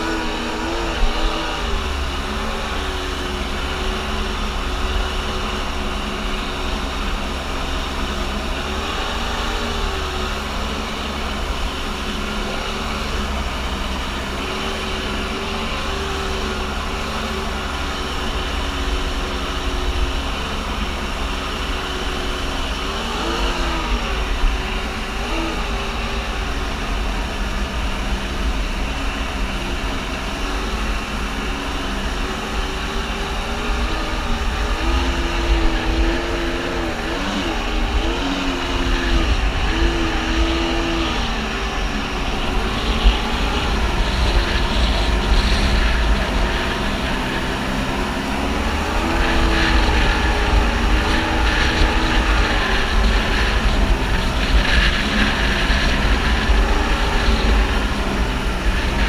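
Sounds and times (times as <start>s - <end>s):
jet ski engine revving: 0.0s - 59.0s
rushing water spray: 0.0s - 59.0s
wind noise: 0.0s - 59.0s.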